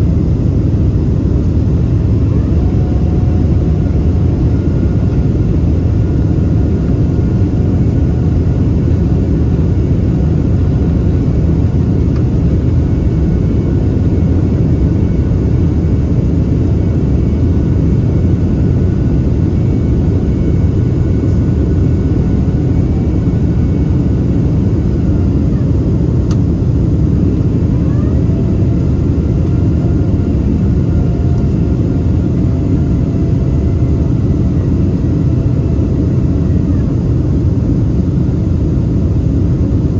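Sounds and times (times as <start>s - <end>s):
faint engine whine: 0.0s - 39.9s
jet engines rumbling: 0.0s - 39.9s.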